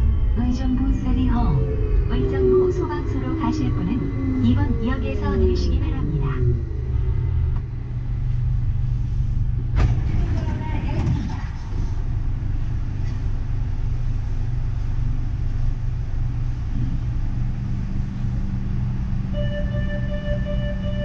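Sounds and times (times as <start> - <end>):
high multi-tone whine: 0.0 - 21.0
train low rumble: 0.0 - 21.0.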